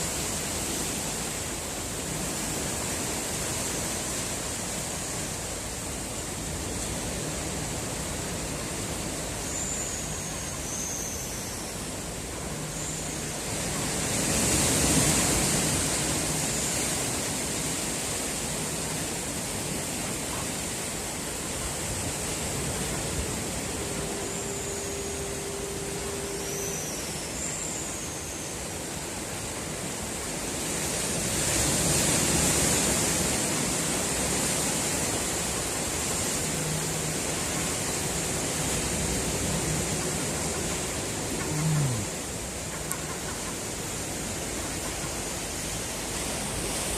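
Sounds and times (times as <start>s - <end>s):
sea surf washing on shore: 0.0s - 46.9s.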